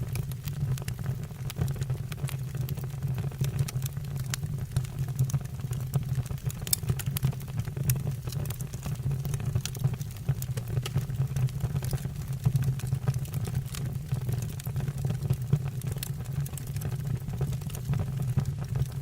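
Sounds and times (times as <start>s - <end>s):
logs crackling and popping: 0.0s - 19.0s
low roar of flames: 0.0s - 19.0s.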